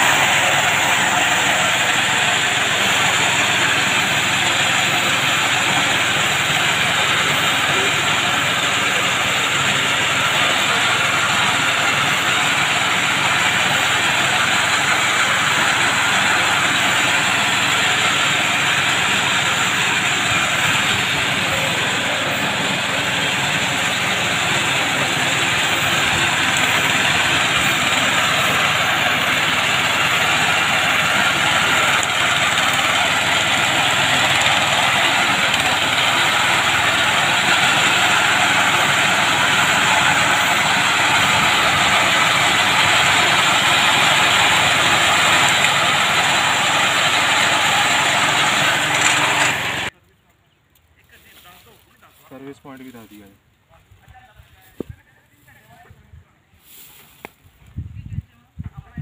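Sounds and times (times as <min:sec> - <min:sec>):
reaper engine running: 0:00.0 - 0:50.0.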